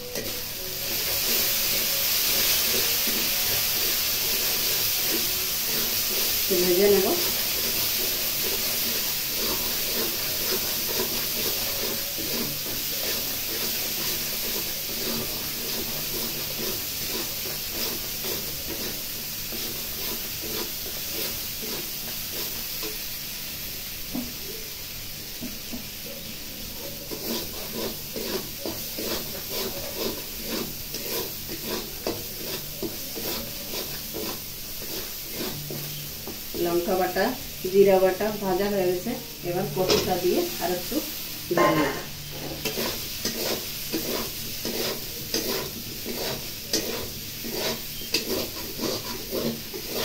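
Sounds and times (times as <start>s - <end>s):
spatula scraping a pan: 0.0s - 23.2s, 26.7s - 37.1s, 39.6s - 50.0s
paste sizzling in hot oil: 0.0s - 50.0s.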